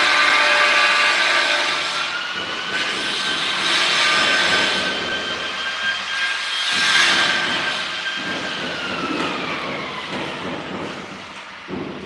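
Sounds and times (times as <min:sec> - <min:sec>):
machine whining: 0:00.6 - 0:12.0.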